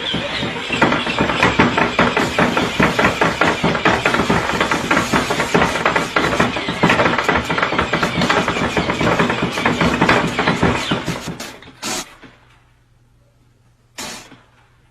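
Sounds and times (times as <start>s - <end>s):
machine clattering and knocking: 0.0s - 12.7s.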